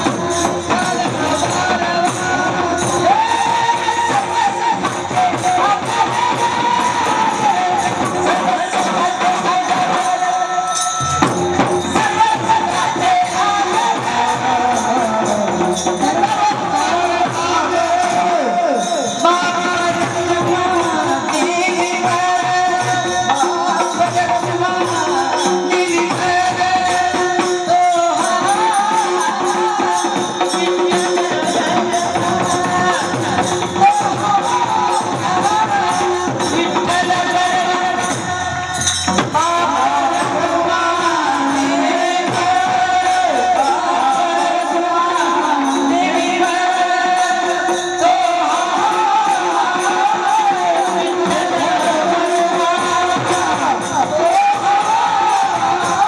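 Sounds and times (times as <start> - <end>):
jingling percussion beat: 0.0 - 56.0.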